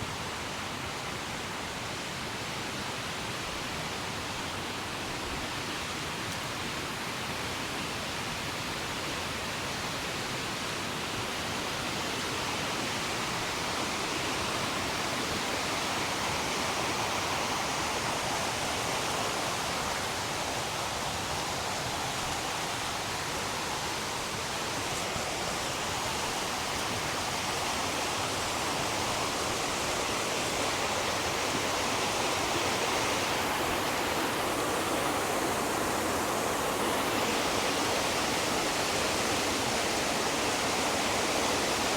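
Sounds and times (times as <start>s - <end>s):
river rushing over rocks: 0.1s - 41.9s.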